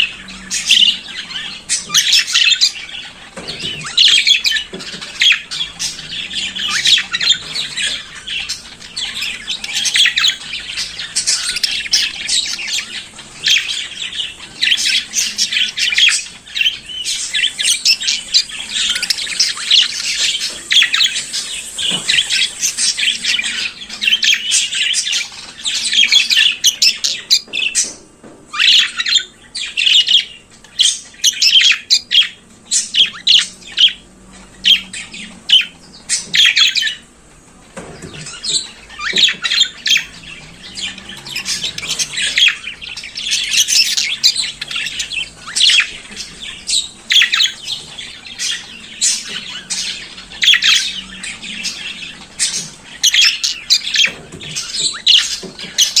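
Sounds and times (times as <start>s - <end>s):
budgerigars warbling and chattering: 0.0s - 56.0s.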